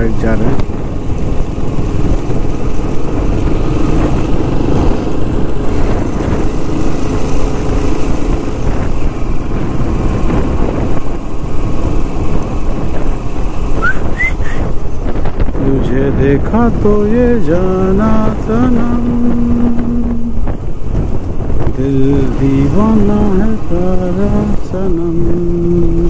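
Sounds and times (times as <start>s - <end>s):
motorcycle engine running: 0.0s - 26.0s
road and wind rumble: 0.0s - 26.0s.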